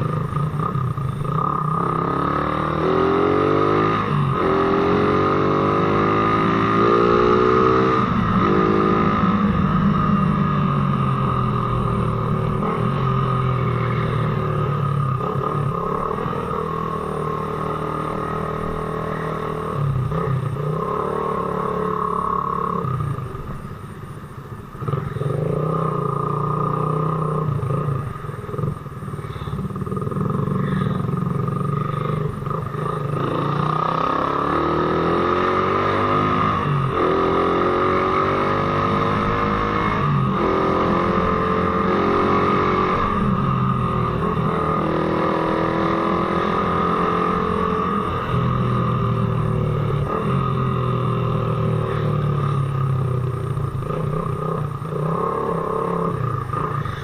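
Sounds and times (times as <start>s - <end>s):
motorcycle engine revving: 0.0s - 24.2s, 24.8s - 57.0s.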